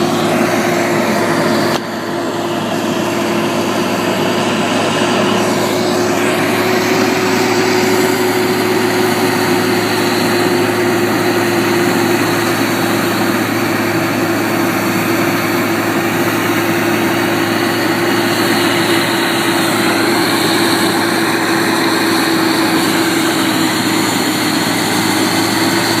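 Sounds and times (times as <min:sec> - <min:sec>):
dense grinding noise: 0:00.0 - 0:26.0
heavy machinery engine drone: 0:00.0 - 0:26.0.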